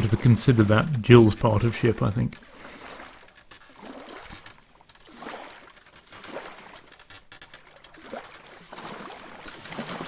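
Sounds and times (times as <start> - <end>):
sea water washing and splashing: 0.0 - 10.0.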